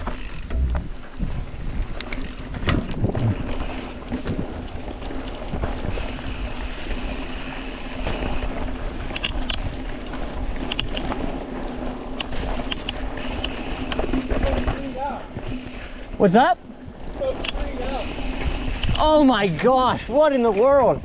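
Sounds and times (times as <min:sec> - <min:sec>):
bike tyres rumbling on trail: 0:00.0 - 0:21.0
wind buffeting microphone: 0:00.0 - 0:21.0.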